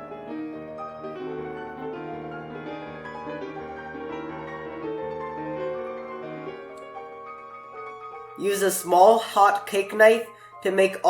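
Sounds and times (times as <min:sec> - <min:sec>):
solo piano run of notes: 0:00.0 - 0:11.0.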